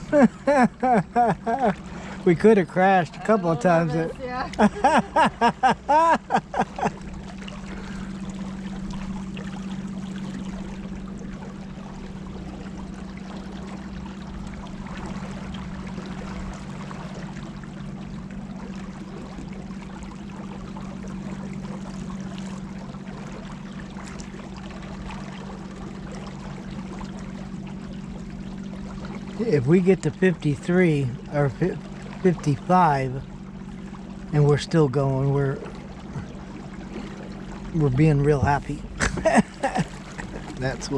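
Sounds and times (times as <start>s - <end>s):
steady low hum: 0.0s - 40.9s
water rushing and trickling: 0.0s - 40.9s.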